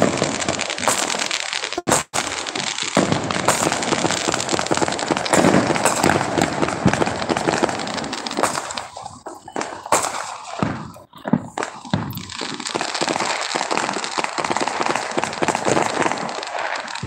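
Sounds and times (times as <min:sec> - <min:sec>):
firecrackers crackling: 0:00.0 - 0:17.0
firework bangs: 0:00.0 - 0:17.0.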